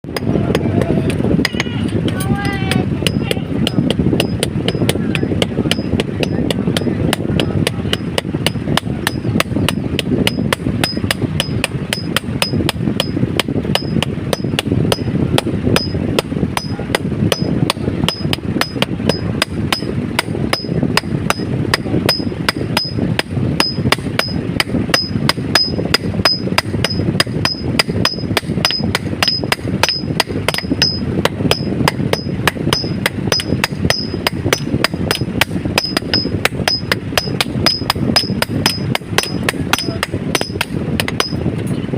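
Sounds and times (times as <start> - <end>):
low rumble: 0.0 - 41.9
hammer striking metal on anvil: 3.0 - 41.4.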